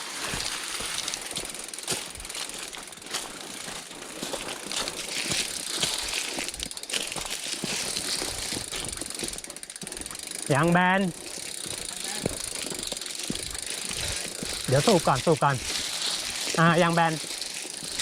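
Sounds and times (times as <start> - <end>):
bicycle rattling over rough ground: 0.0 - 18.0.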